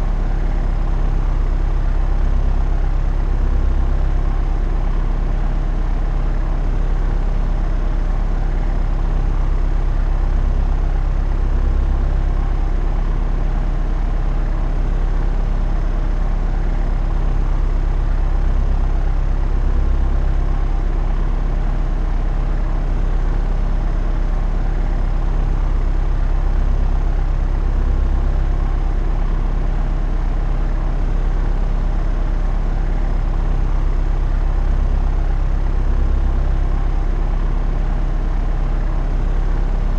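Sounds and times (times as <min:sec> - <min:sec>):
propeller aeroplane engine drone: 0:00.0 - 0:39.9.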